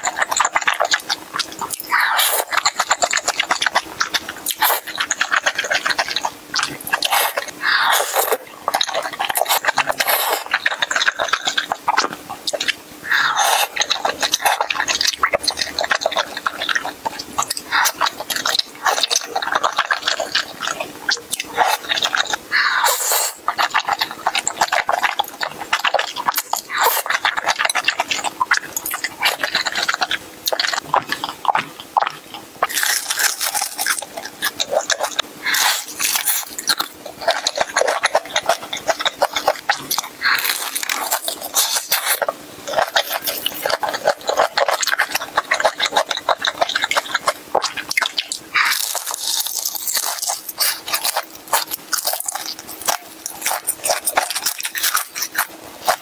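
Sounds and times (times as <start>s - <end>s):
chewing noodles: 0.0s - 56.0s
crunching fried chicken: 0.0s - 56.0s.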